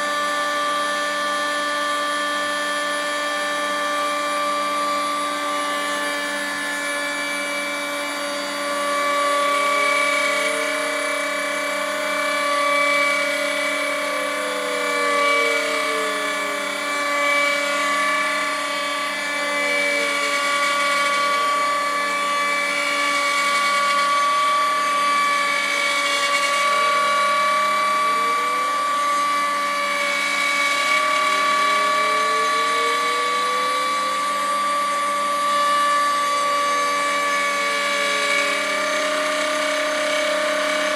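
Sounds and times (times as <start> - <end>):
router spindle whining: 0.0 - 40.9
stepper motors whining: 0.0 - 40.9.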